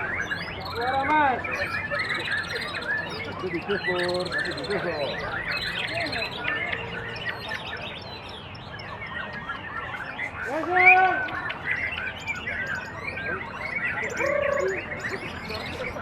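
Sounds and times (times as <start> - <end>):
chorus of bird chirps: 0.0 - 16.0
songbird singing: 0.0 - 16.0.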